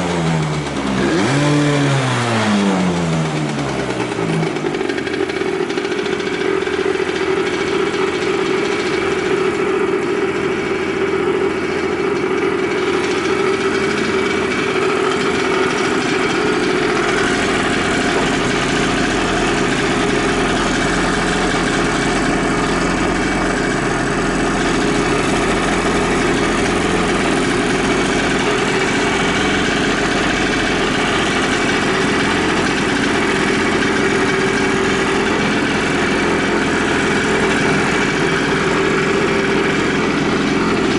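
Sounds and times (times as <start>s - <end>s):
two-stroke engine idling: 0.0s - 40.9s.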